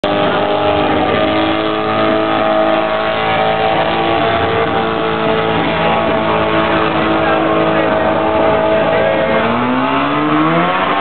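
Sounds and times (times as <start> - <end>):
rotary engine running: 0.0 - 11.0.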